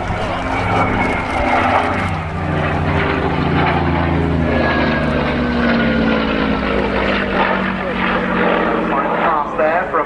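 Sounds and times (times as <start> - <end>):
aircraft piston engine running: 0.0 - 10.0.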